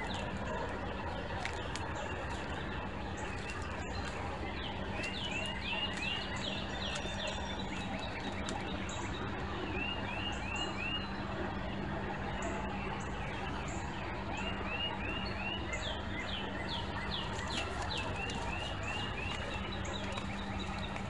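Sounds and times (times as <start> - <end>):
low background hum: 0.0 - 21.0
songbird chirping: 0.0 - 21.0.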